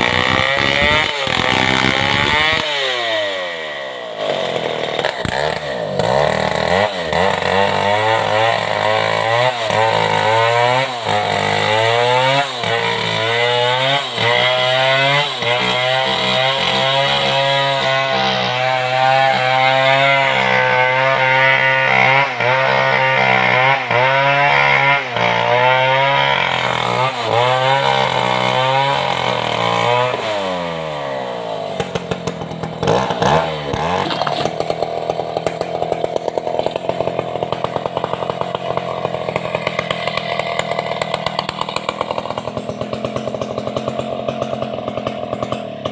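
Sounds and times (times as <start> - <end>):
chainsaw ripping through log: 0.0 - 45.9.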